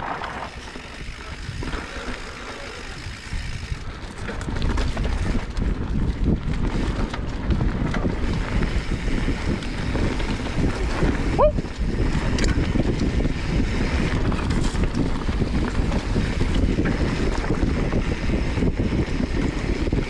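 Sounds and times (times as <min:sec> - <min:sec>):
bike rattling over bumps: 0:00.0 - 0:20.0
wind buffeting microphone: 0:00.0 - 0:20.0.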